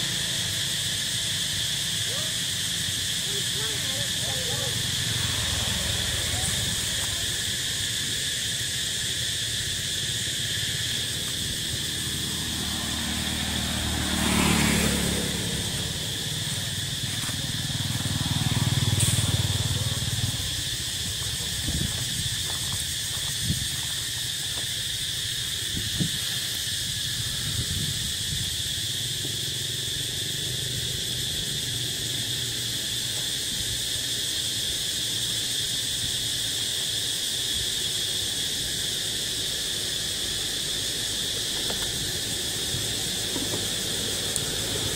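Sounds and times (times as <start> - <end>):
insect chorus buzzing: 0.0 - 44.9.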